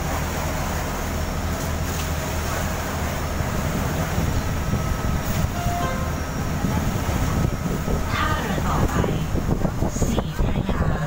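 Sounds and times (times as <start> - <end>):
water rushing: 0.0 - 10.5
boat diesel engine rumble: 0.0 - 11.0
wind: 0.0 - 11.0.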